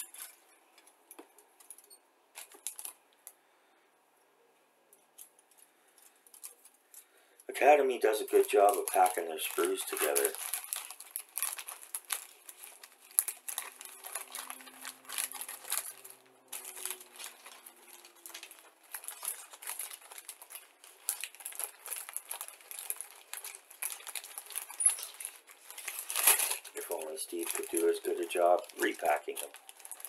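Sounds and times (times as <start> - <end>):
plastic bag crinkling: 0.0 - 3.5, 5.0 - 30.0.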